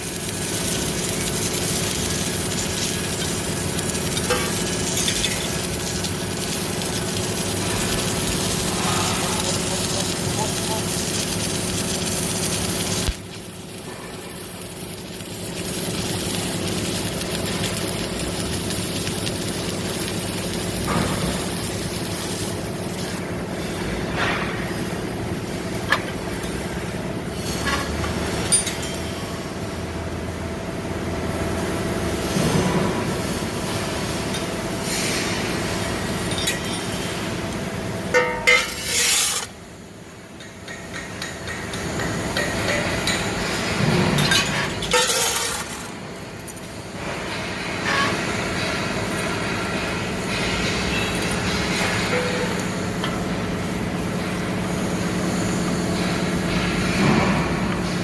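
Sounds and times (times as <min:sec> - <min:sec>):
welding machine humming: 0:00.0 - 0:58.0.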